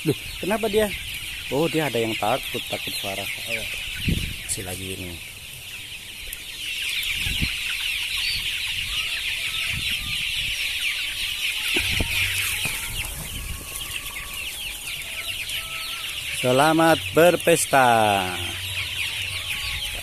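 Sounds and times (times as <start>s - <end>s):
chicks cheeping: 0.0s - 20.0s.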